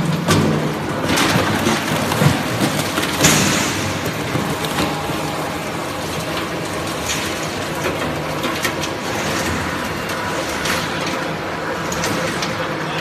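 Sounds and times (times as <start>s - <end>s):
cracks and crunches of shredding: 0.0s - 13.0s.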